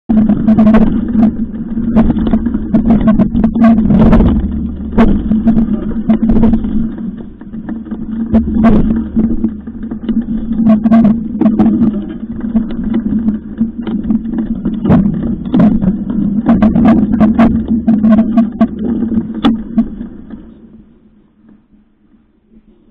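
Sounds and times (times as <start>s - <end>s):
low rumble hum: 0.0s - 22.9s
bikes knocking and rattling: 0.1s - 22.9s.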